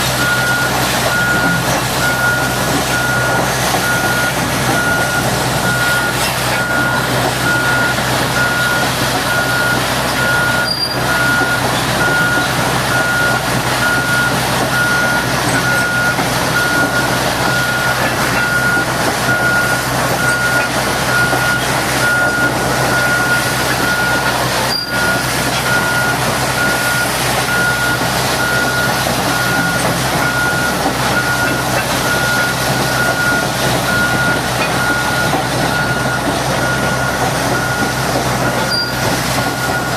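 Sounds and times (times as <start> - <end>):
heavy machinery running: 0.0 - 39.9
reversing alarm beeping: 0.1 - 39.9.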